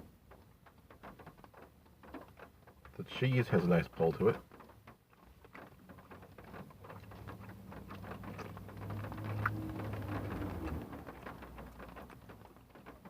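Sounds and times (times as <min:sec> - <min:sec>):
crispy food chewing: 0:02.3 - 0:13.0.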